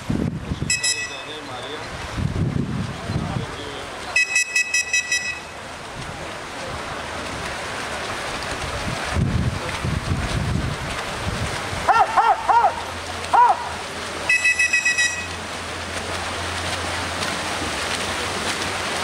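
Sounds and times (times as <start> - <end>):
swimmers splashing: 0.6 - 19.0.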